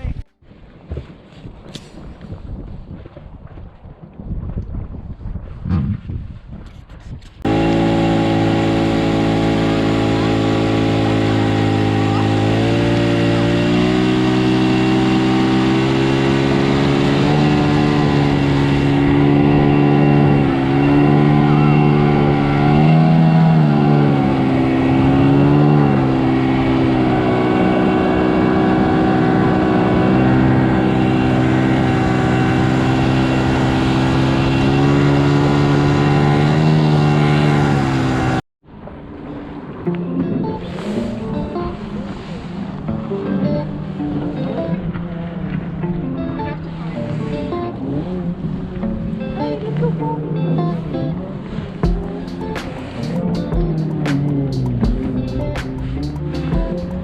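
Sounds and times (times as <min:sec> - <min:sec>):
outboard motor running: 0:07.5 - 0:38.4, 0:40.6 - 0:57.0.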